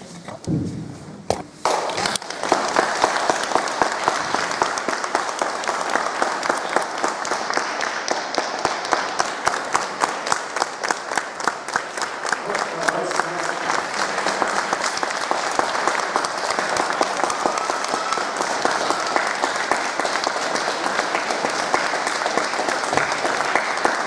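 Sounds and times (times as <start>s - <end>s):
audience applauding: 1.6s - 24.0s.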